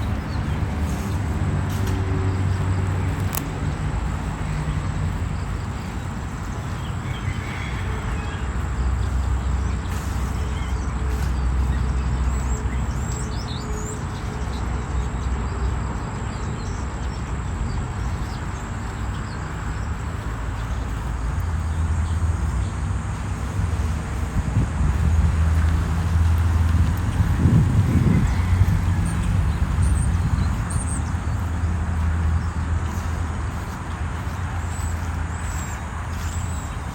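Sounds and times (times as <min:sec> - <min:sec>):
low outdoor rumble: 0:00.0 - 0:36.9.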